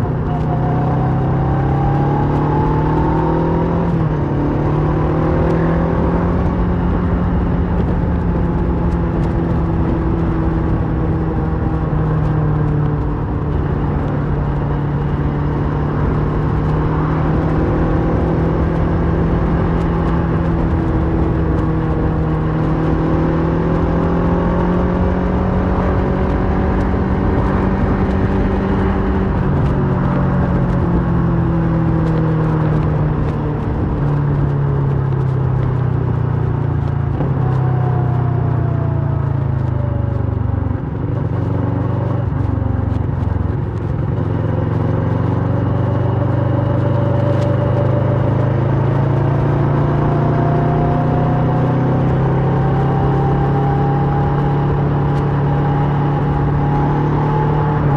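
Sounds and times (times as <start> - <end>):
motorcycle engine running: 0.0 - 57.9
wind and road noise: 0.0 - 57.9.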